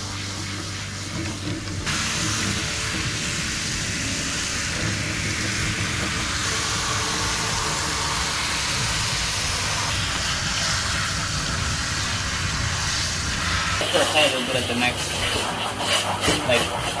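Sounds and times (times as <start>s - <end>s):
shower sprayer hissing and splashing: 0.0s - 17.0s.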